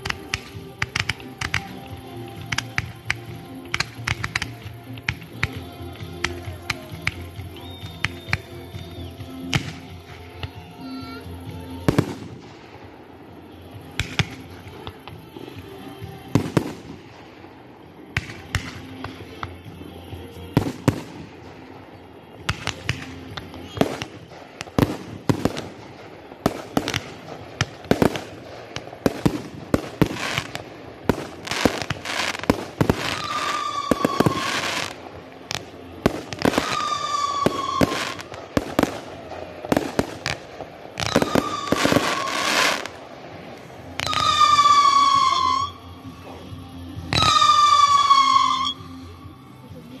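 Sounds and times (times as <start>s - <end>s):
high firework whistles: 0.0s - 49.1s
fireworks bangs and crackles: 0.0s - 50.0s.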